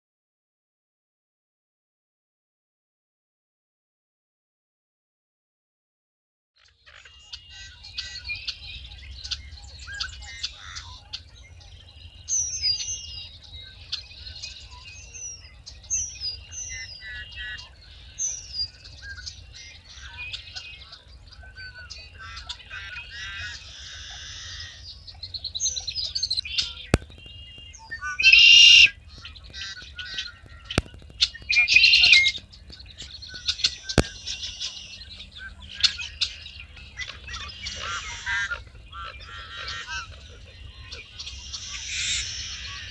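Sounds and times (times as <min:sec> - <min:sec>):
harsh buzzy bird calls: 0:06.6 - 0:42.9
birds chirping and whistling: 0:06.9 - 0:42.9.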